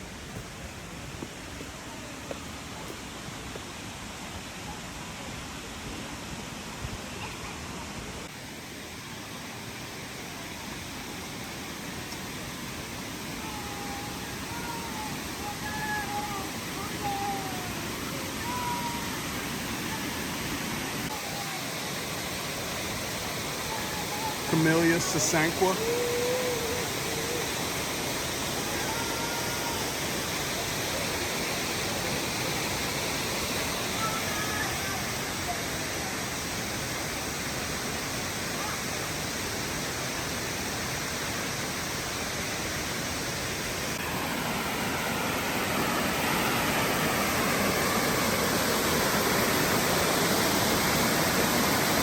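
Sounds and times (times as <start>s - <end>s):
rush of falling water: 0.0s - 52.0s.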